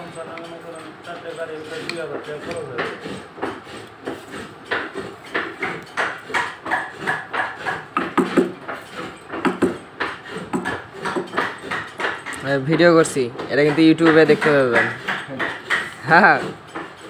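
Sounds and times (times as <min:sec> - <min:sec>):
mallet striking chisel into wood: 0:01.8 - 0:16.9.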